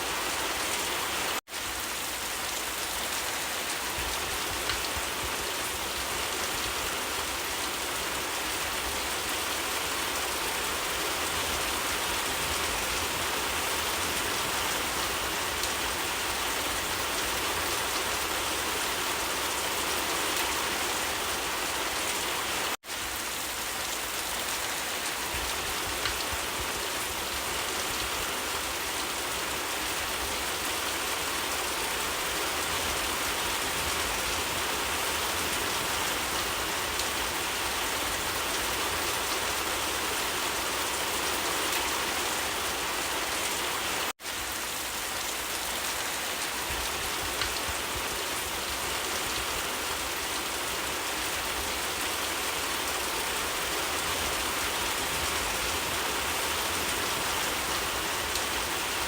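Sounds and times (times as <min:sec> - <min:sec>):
dense rainfall hiss: 0:00.0 - 0:59.0.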